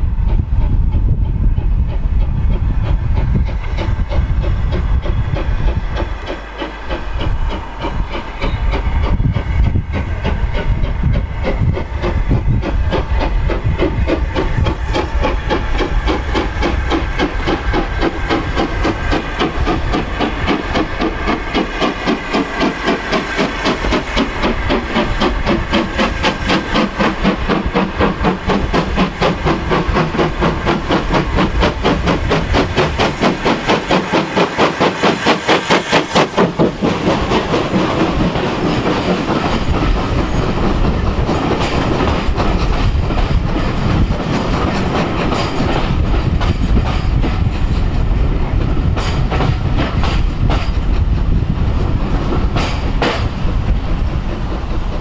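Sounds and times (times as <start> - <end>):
steam locomotive exhaust beats: 0.0 - 55.0
steam hissing: 1.4 - 55.0.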